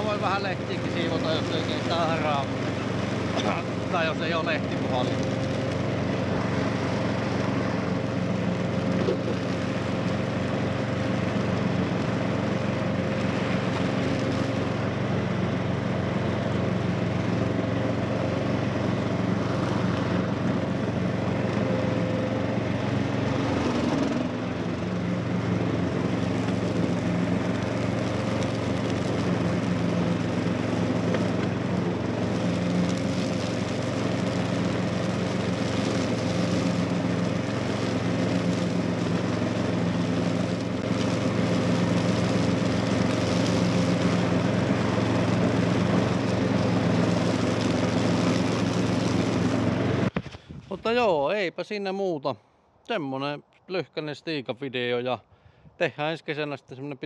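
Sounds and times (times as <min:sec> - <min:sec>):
mower deck sweeping leaves: 0:00.0 - 0:50.8
ride-on mower engine running: 0:00.0 - 0:50.8.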